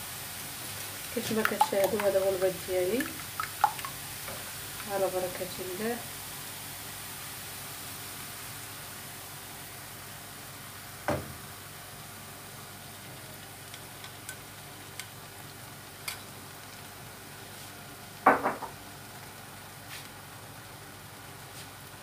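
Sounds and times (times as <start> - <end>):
egg sizzling in a pan: 0.0 - 22.0.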